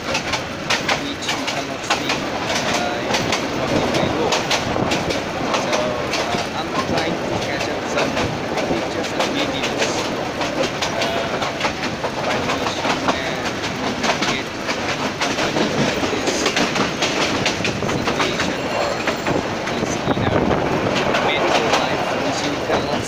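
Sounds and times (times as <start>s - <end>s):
train rumbling along track: 0.0s - 23.0s
wheels clattering over rails: 0.0s - 23.0s.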